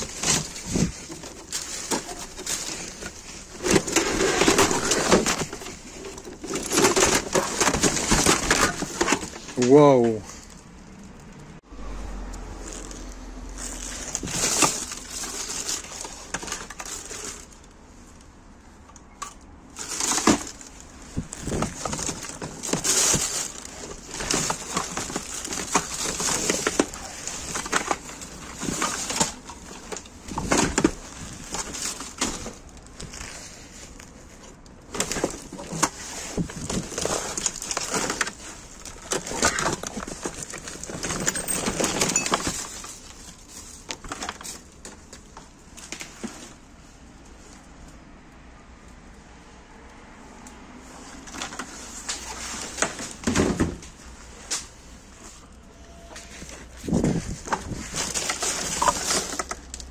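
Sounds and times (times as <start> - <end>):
hard plastic items clattering: 0.0 - 11.4, 12.6 - 46.8, 50.8 - 55.5, 56.2 - 59.9
plastic bags crinkling: 0.0 - 18.3, 19.1 - 46.7, 56.3 - 59.9.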